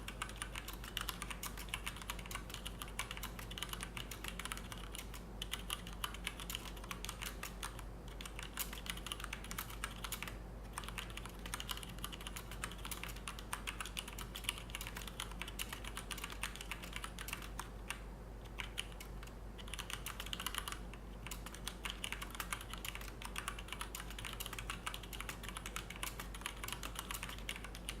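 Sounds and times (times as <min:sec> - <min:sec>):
fast mechanical keyboard typing: 0:00.0 - 0:28.0.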